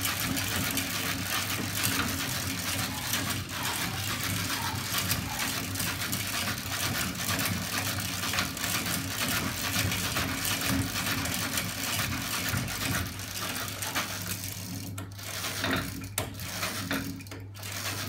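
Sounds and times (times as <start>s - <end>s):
bicycle chains ticking and rattling: 0.0s - 18.0s.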